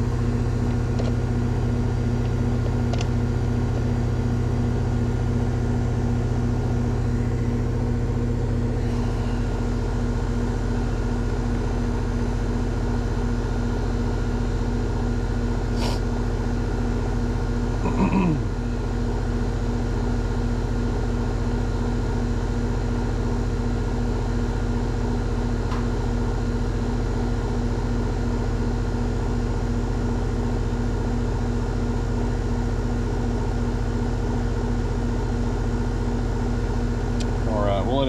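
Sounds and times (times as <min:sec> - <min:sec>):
heat pump humming: 0:00.0 - 0:38.0.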